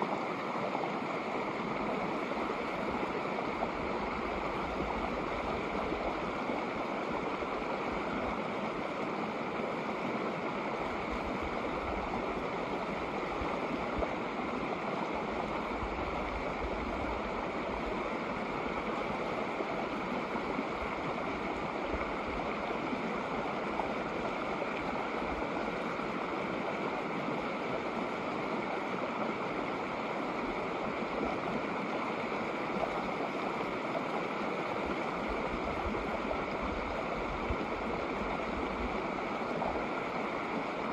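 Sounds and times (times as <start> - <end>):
creek flowing over rocks: 0.0 - 40.9.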